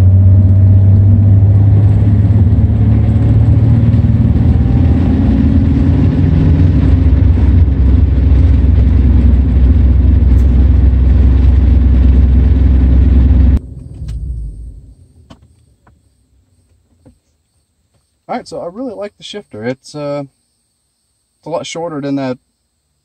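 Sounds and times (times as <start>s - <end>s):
car engine and road noise: 0.0s - 19.4s.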